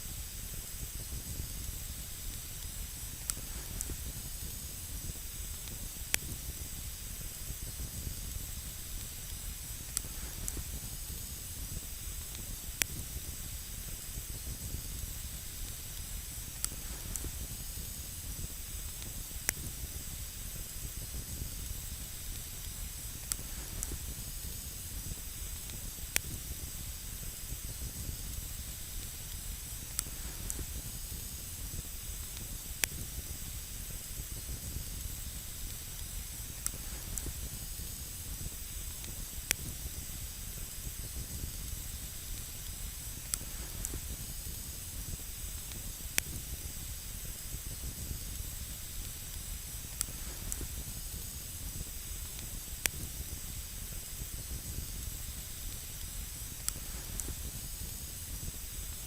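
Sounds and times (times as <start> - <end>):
campfire hissing: 0.0 - 59.0
burning wood crackling: 0.1 - 59.0.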